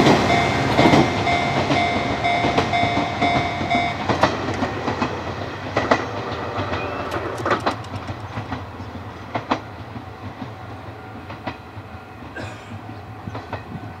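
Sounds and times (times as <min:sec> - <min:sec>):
train rumble: 0:00.0 - 0:14.0
train wheels clacking over rail joints: 0:00.0 - 0:14.0.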